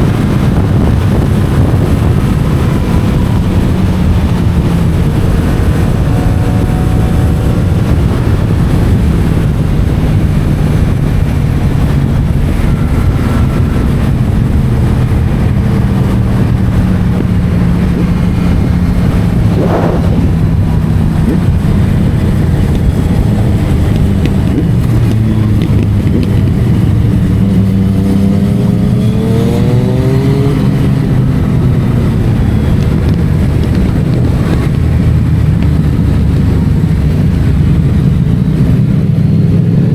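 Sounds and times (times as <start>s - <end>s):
wind rushing: 0.0s - 38.4s
motorcycle engine running: 0.0s - 39.9s.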